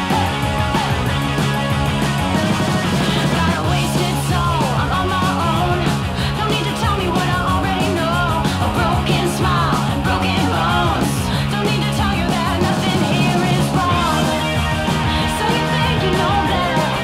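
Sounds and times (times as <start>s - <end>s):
rock music with sliding melody: 0.0s - 17.0s.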